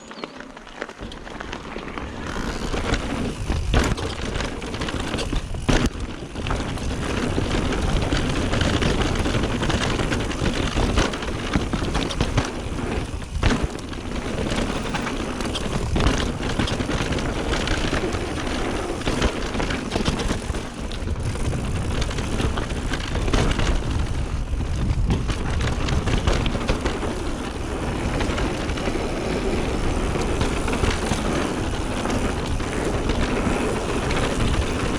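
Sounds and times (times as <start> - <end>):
bike rattling over bumps: 0.0 - 34.9
wind and tyre noise: 0.0 - 34.9.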